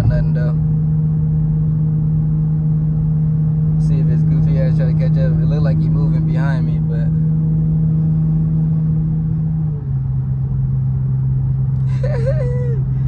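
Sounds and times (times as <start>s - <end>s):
car engine droning in cabin: 0.0s - 13.0s
low road rumble: 0.0s - 13.0s.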